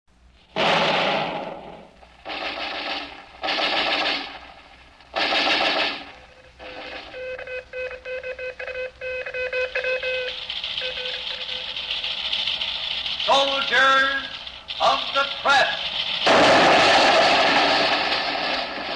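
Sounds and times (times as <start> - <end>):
machine-gun fire: 0.5 - 7.5, 10.1 - 18.9.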